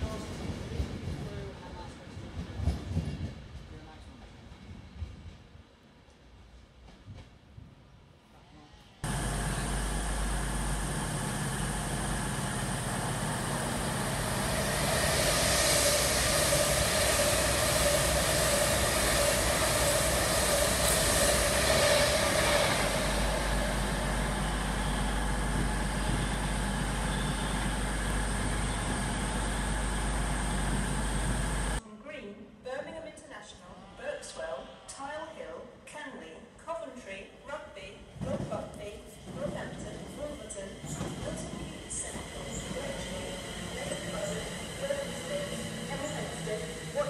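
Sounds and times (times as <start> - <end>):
passenger train rumble and hum: 0.0 - 31.8, 38.0 - 47.0.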